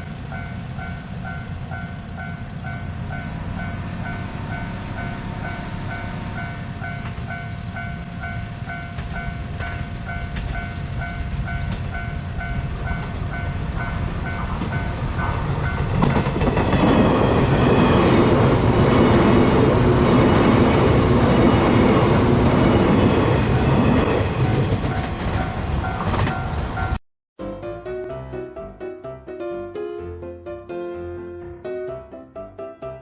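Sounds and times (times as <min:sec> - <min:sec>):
crossing warning bell dinging: 0:00.0 - 0:27.0
train rumble and wheel clatter: 0:00.0 - 0:27.0.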